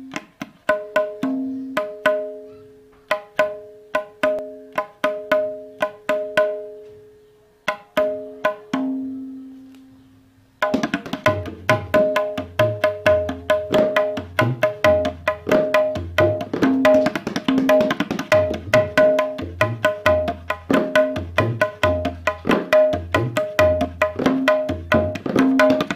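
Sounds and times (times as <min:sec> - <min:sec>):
tabla drum strokes: 0:00.0 - 0:06.9, 0:07.7 - 0:10.0, 0:10.6 - 0:25.9.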